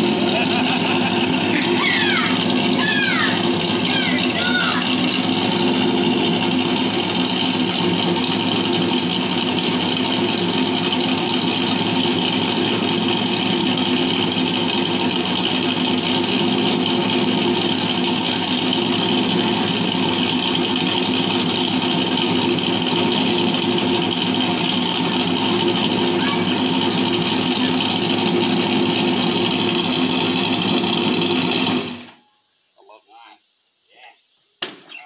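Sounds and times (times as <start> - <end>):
car engine idling: 0.0 - 32.1.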